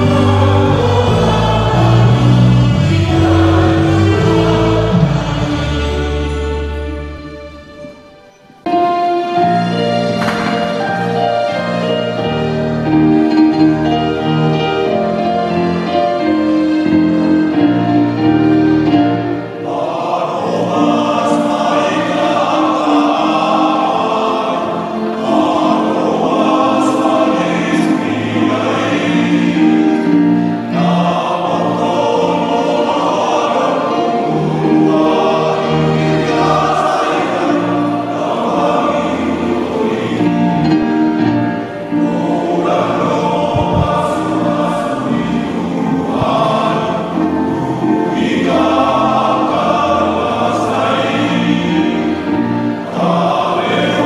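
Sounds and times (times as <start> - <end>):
electronic keyboard accompaniment: 0.0 - 54.0
many voices singing a hymn: 0.0 - 54.0.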